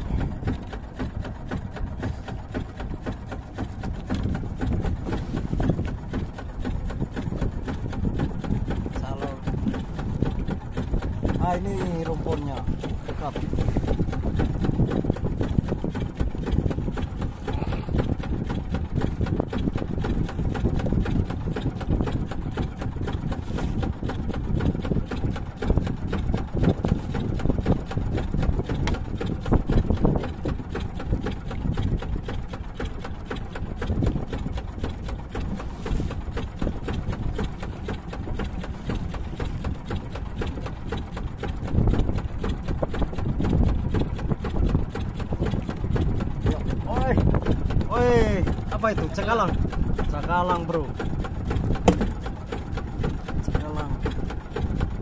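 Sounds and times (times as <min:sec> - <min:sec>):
boat engine chugging: 0:00.0 - 0:55.0.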